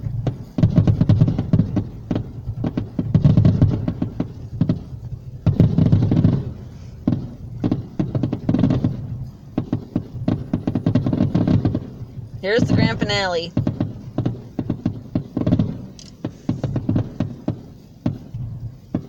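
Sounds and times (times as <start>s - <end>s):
deep fireworks booms: 0.0s - 19.0s
fireworks cracks and bangs: 0.0s - 19.0s.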